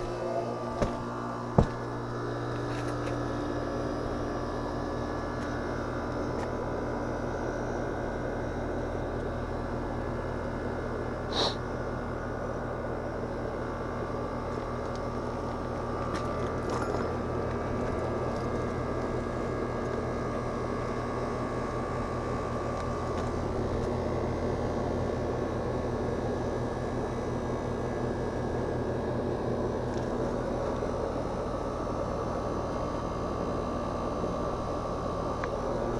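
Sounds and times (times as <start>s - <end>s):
air conditioner unit humming: 0.0s - 35.9s.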